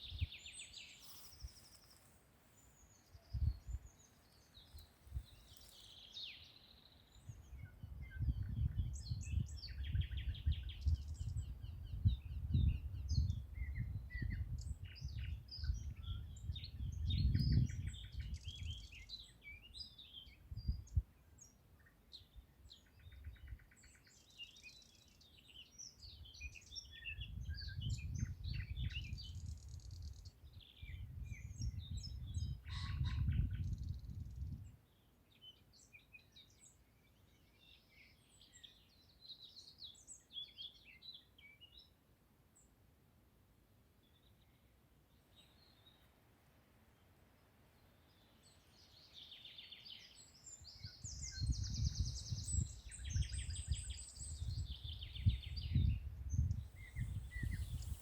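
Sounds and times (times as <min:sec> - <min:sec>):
songbirds singing and chirping: 0:00.0 - 0:43.0, 0:43.9 - 0:46.2, 0:46.8 - 0:58.0.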